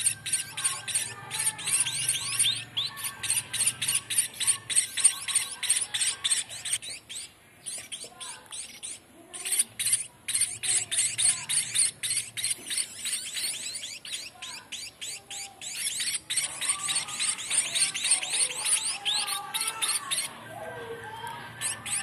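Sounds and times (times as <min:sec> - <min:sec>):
fledglings begging calls: 0:00.0 - 0:22.0.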